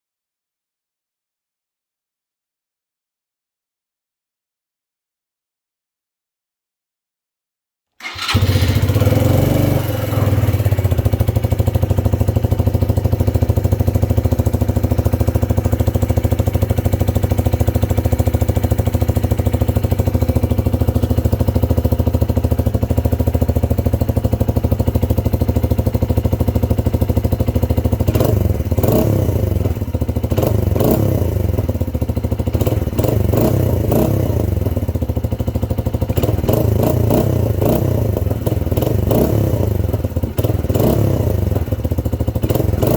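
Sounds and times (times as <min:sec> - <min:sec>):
motorcycle engine idling: 0:08.0 - 0:42.9.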